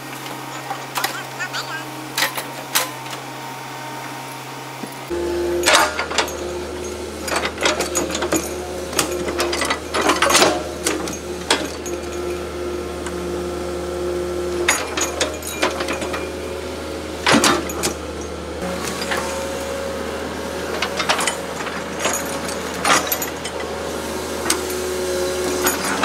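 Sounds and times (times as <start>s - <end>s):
excavator diesel engine humming: 0.1s - 2.2s, 3.8s - 26.0s.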